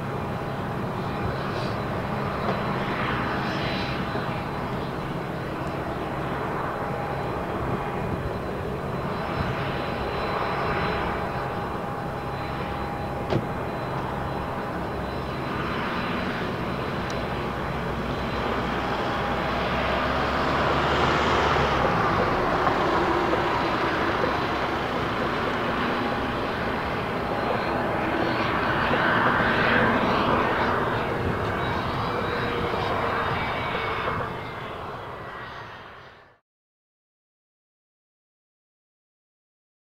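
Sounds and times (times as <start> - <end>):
jet engines rushing and whining: 0.0 - 36.4.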